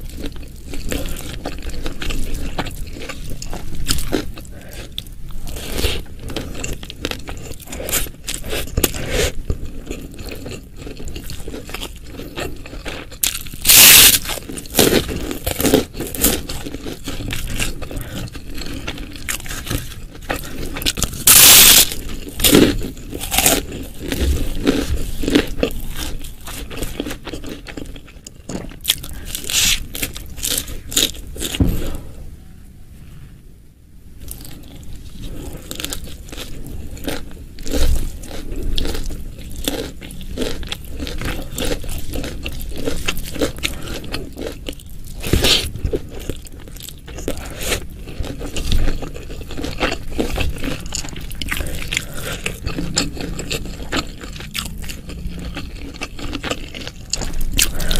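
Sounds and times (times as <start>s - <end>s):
crunchy chewing: 0.0s - 32.2s, 34.2s - 57.9s.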